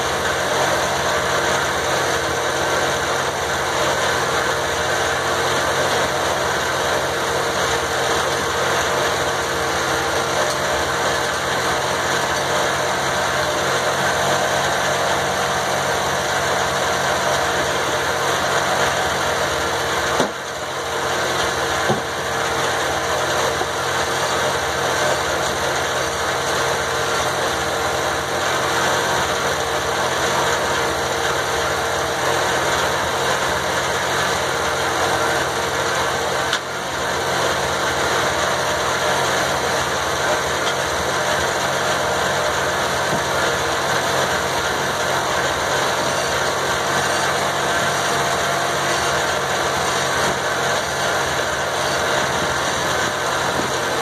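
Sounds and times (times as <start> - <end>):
circular sawmill blade spinning: 0.0 - 54.0.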